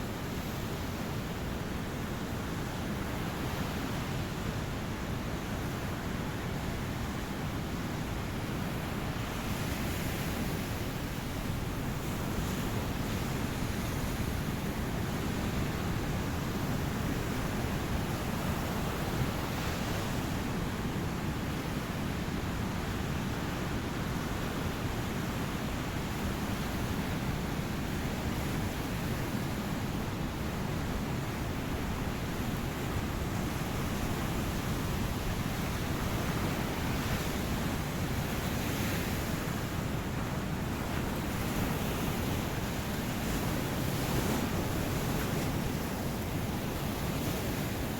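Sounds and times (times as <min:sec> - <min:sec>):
waves washing on a beach: 0:00.0 - 0:47.9.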